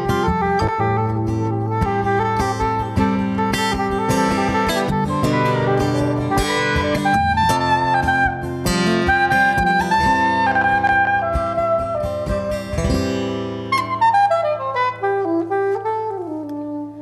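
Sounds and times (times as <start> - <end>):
acoustic guitar strumming: 0.0 - 15.4
soprano saxophone melody: 0.0 - 17.0.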